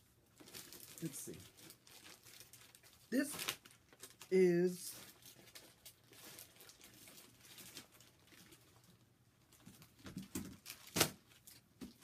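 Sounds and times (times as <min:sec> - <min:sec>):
rustling of packaging: 0:00.0 - 0:12.0.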